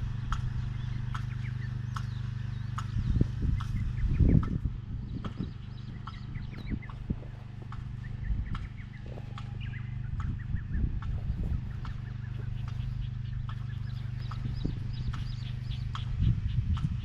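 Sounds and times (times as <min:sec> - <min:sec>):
birds chirping and calling: 0:00.0 - 0:17.0
machine engine humming: 0:00.0 - 0:17.0.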